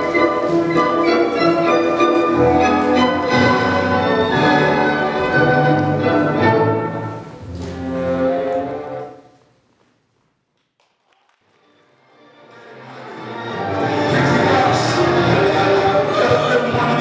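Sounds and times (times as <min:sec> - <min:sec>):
orchestral classical music: 0:00.0 - 0:09.4, 0:11.5 - 0:17.0.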